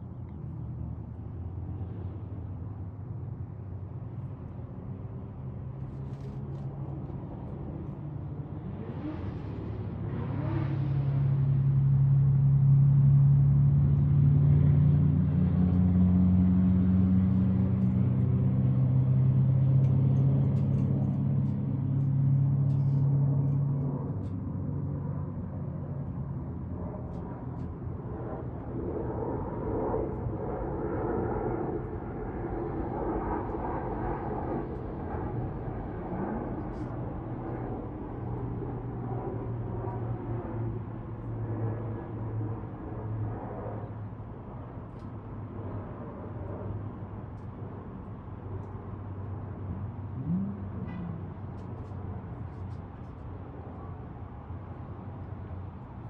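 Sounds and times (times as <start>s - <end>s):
motor vehicle engine hum: 0.0s - 56.0s.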